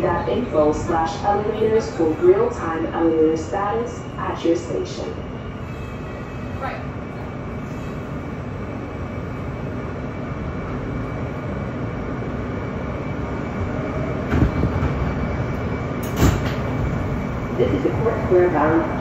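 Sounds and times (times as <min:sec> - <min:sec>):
subway train rumble and hum: 0:00.0 - 0:19.0.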